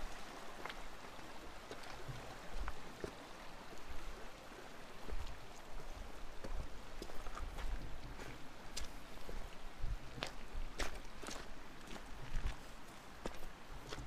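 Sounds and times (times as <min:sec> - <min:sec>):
river running over stones: 0:00.0 - 0:14.0.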